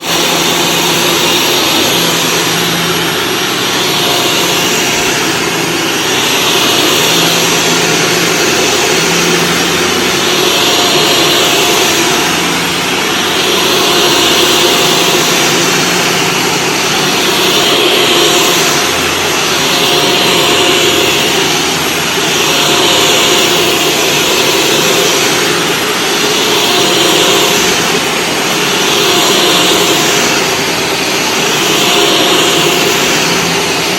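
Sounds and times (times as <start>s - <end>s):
vacuum cleaner on carpet: 0.0s - 33.9s.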